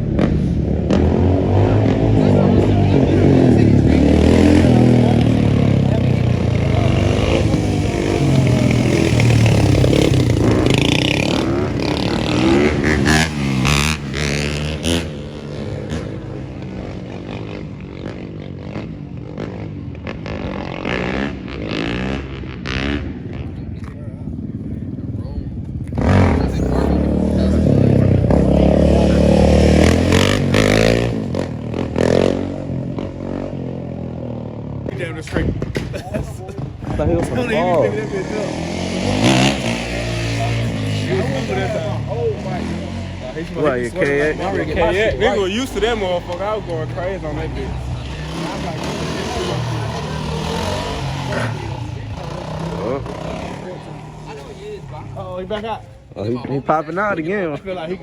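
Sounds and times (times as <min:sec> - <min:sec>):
motorbike engine revving: 0:00.0 - 0:56.2.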